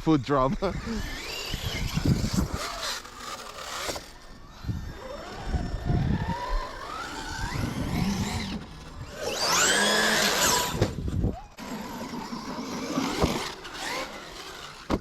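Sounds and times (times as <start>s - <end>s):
tires and chassis rumble: 0.0s - 15.0s
electric motor whine: 0.5s - 15.0s.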